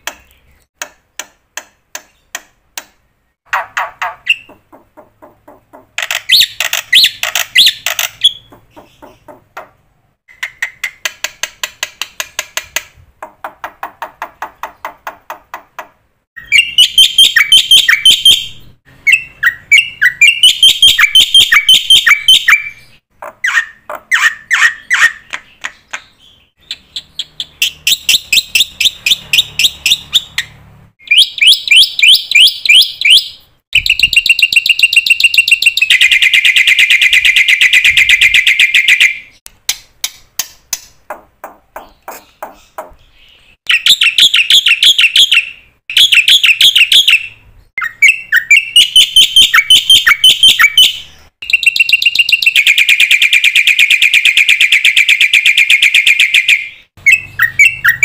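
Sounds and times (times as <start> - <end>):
bird chirping and trilling: 3.4 - 11.2, 13.6 - 39.4, 41.8 - 58.0.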